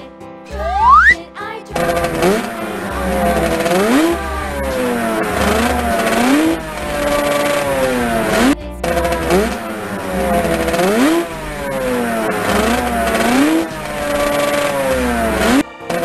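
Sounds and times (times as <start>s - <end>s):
motorcycle engine revving: 0.6s - 1.2s, 1.8s - 16.0s.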